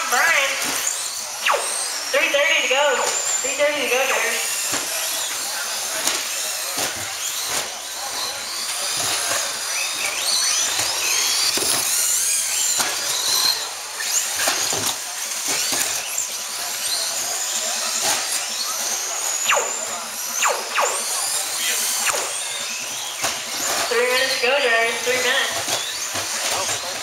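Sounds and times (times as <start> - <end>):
rc truck motors whining: 0.0 - 27.0.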